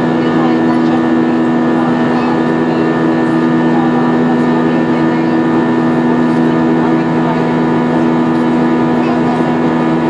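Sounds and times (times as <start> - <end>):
jet engine drone in cabin: 0.0 - 10.0.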